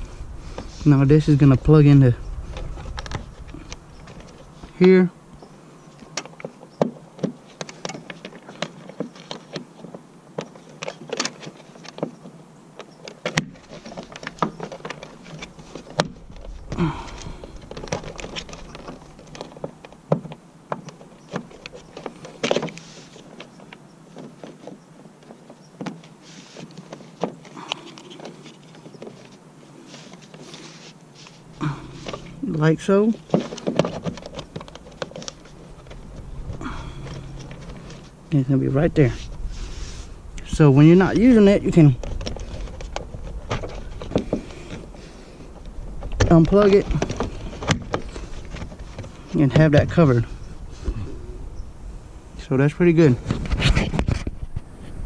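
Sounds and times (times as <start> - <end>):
hands handling wiring: 2.4 - 5.0, 5.9 - 51.2.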